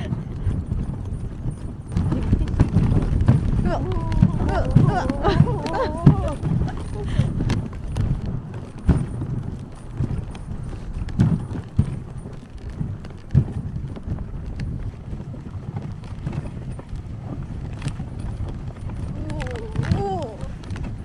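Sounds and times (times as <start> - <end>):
sled bumping and thumping: 0.0 - 21.0
sled runners rumbling on snow: 0.0 - 21.0.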